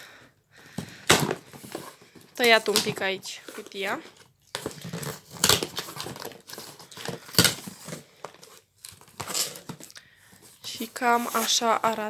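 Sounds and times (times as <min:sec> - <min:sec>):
packaging rustling and crinkling: 0:00.6 - 0:12.0
cardboard box being opened: 0:01.1 - 0:11.4.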